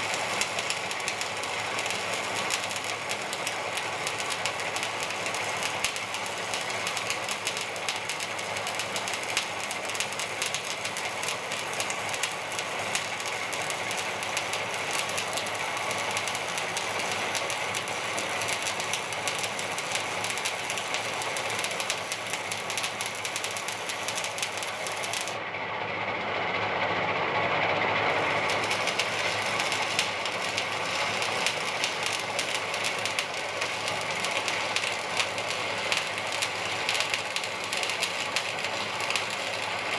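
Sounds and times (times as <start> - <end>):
arc welding crackle: 0.0 - 25.4, 28.1 - 39.9.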